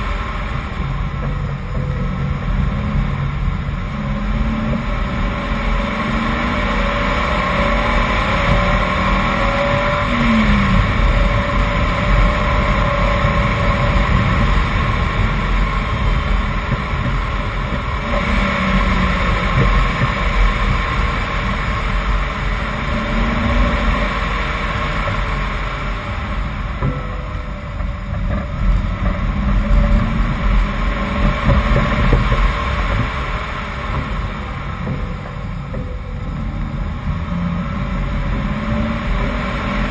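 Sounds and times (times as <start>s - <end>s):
car engine revving: 0.0s - 39.9s
wind: 0.0s - 39.9s.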